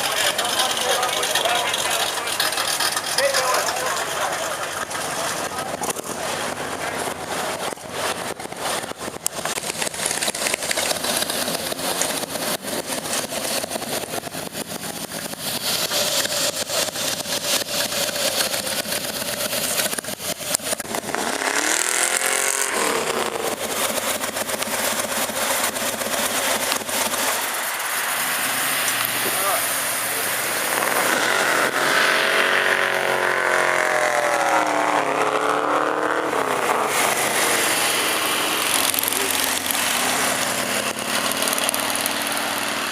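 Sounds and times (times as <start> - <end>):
car engine running: 0.0 - 42.9
road and wind noise: 0.0 - 42.9.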